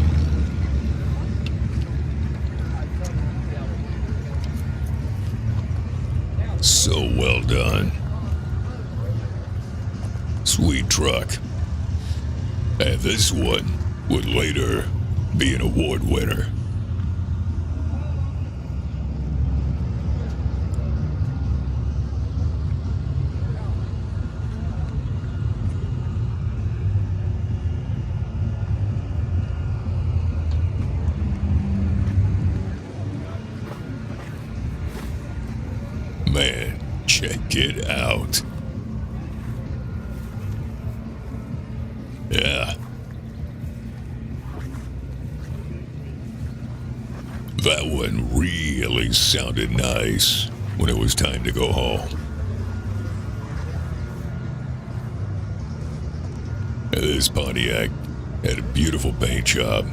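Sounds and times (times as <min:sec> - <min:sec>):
vehicle engine rumbling: 0:00.0 - 0:59.9.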